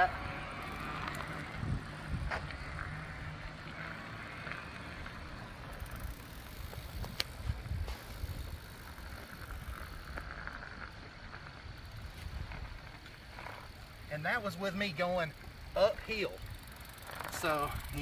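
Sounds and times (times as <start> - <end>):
electric bike tyres and motor: 0.0 - 18.0.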